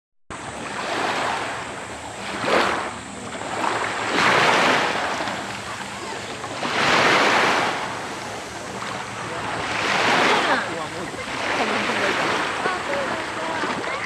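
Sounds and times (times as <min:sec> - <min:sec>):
small waves washing onto sand: 0:00.4 - 0:14.0.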